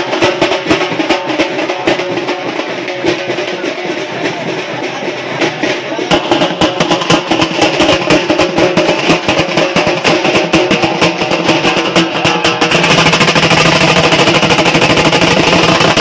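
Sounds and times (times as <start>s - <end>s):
music with fast drum beats: 0.0s - 16.0s.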